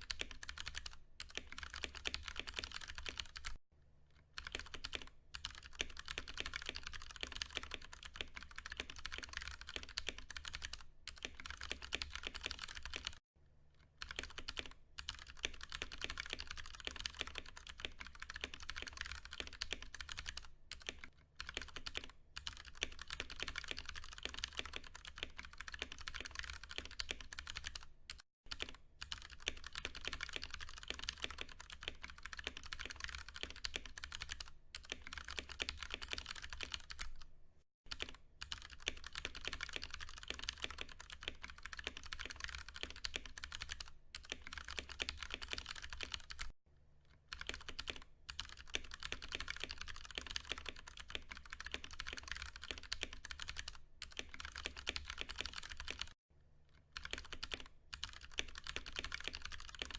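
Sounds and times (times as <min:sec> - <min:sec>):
mechanical keyboard typing: 0:00.0 - 0:03.6, 0:04.4 - 0:13.2, 0:14.0 - 0:37.3, 0:37.9 - 0:46.5, 0:47.3 - 0:56.2, 0:57.0 - 0:59.9.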